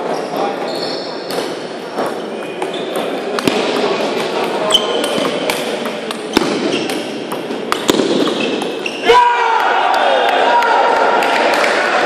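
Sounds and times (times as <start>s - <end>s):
sports hall hum: 0.0s - 12.0s.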